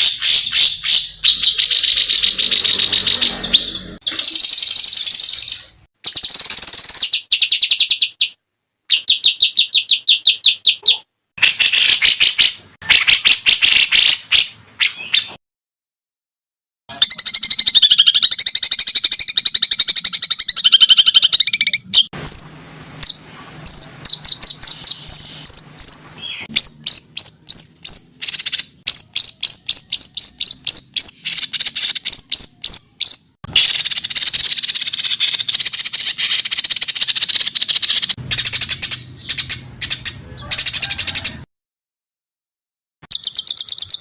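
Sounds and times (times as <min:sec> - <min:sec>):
songbird buzzy trill: 0:00.0 - 0:15.4, 0:16.9 - 0:41.2.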